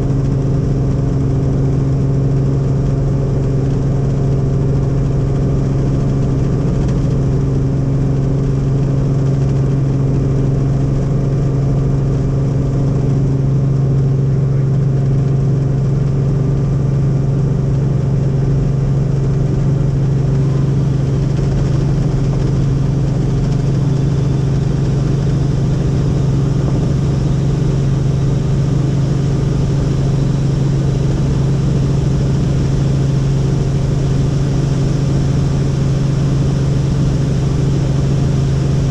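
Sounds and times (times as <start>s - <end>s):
helicopter engine and rotors droning: 0.0s - 38.9s.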